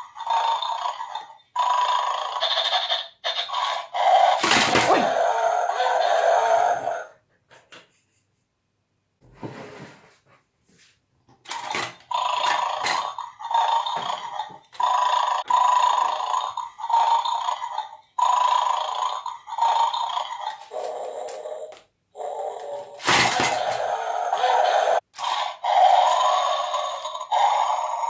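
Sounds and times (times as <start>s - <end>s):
electronic dog growling: 0.0s - 7.2s, 11.5s - 28.0s.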